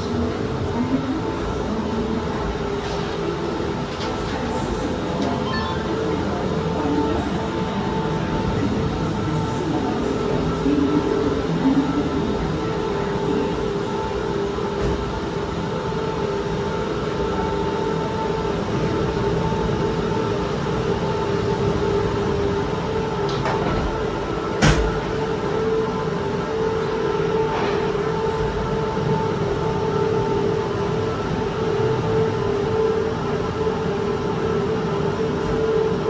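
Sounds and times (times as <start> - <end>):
gondola cabin hum and air rush: 0.0 - 36.0.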